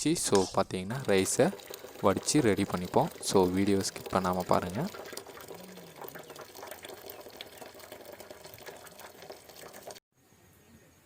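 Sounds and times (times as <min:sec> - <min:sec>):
water pouring and dripping: 0:00.0 - 0:10.0.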